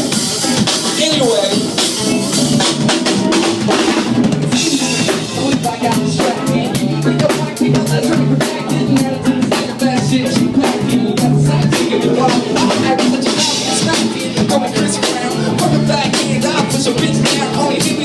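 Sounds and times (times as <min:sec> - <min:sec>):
drum kit groove: 0:00.0 - 0:18.0
live band playing: 0:00.0 - 0:18.0
low bass notes: 0:00.0 - 0:18.0.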